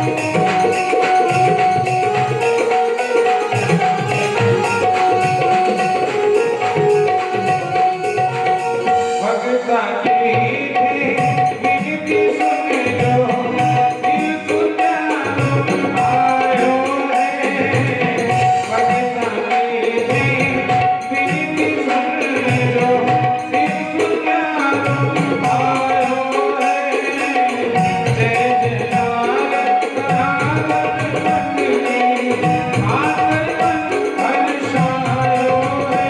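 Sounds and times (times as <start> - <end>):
tabla rhythm: 0.0 - 36.0.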